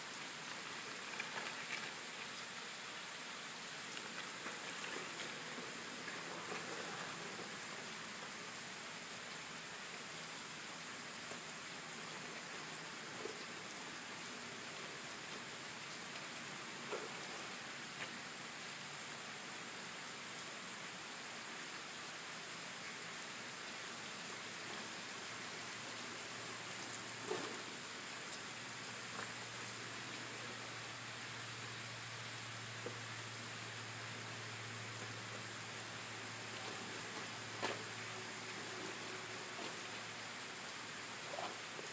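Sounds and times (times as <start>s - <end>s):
steady rain on pavement: 0.0s - 41.9s.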